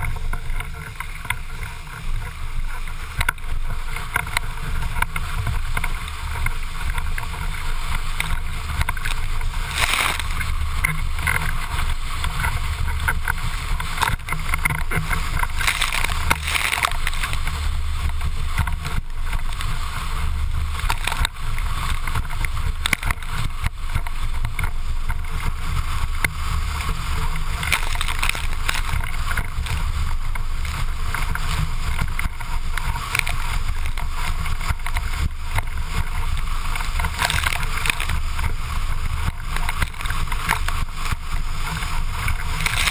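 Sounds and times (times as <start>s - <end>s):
rushing water hiss: 0.0s - 42.9s.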